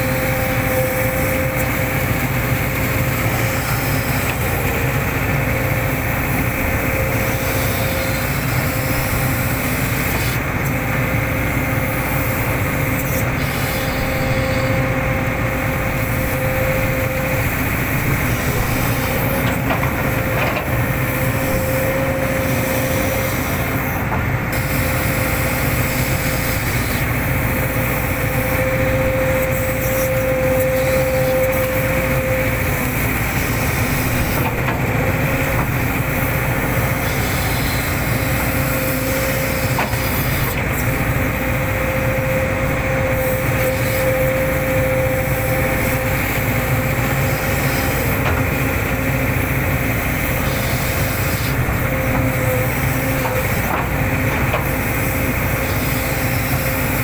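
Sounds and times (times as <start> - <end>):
excavator diesel engine and hydraulics: 0.0 - 57.0
steady whine: 0.0 - 57.0.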